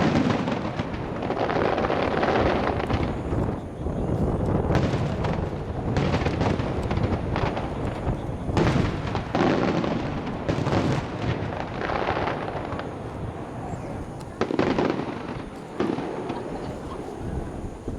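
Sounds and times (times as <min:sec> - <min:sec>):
fireworks crackling: 0:00.0 - 0:17.9
fireworks shells booming: 0:00.0 - 0:17.9.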